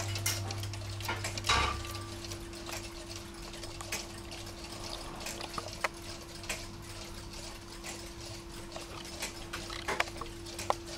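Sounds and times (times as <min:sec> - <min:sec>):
clocks ticking: 0:00.0 - 0:10.9
steady hum: 0:00.0 - 0:10.9.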